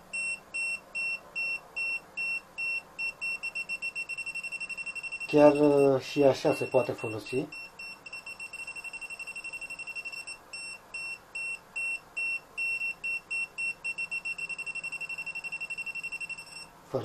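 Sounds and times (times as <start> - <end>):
voltage detector beeping: 0.2 - 16.7.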